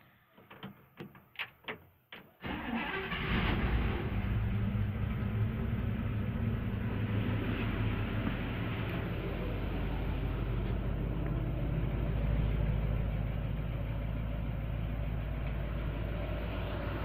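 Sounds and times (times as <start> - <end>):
car engine idling: 2.6 - 17.0.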